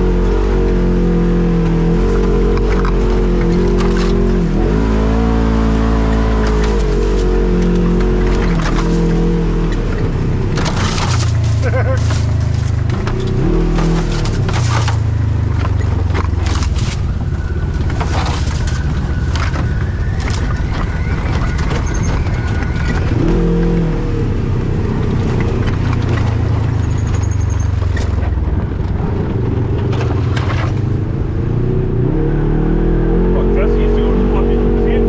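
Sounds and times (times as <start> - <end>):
knocks and rattles on rough trail: 0.0 - 35.0
off-road vehicle engine revving: 0.0 - 35.0.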